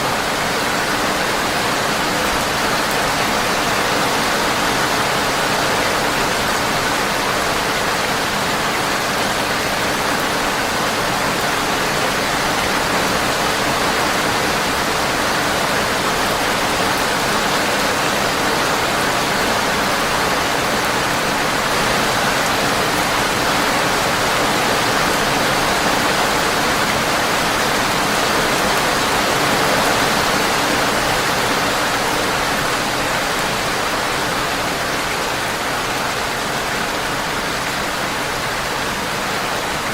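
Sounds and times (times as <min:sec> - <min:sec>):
rain on a windowpane: 0:00.0 - 0:39.9.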